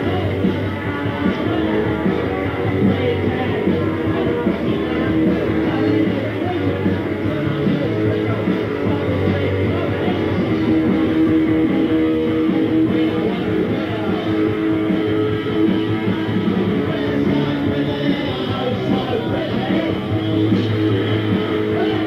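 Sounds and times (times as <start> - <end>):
bass guitar: 0.0 - 22.0
distorted electric guitar: 0.0 - 22.0
drums: 0.0 - 22.0.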